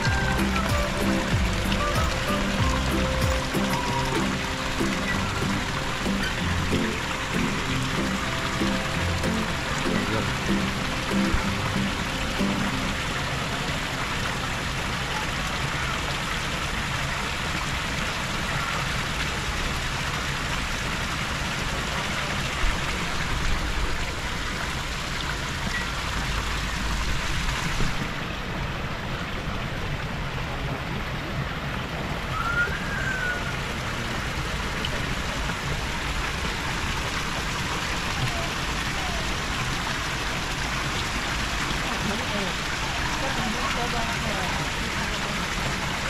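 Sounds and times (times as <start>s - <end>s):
fountain water splashing into pond: 0.0s - 46.0s.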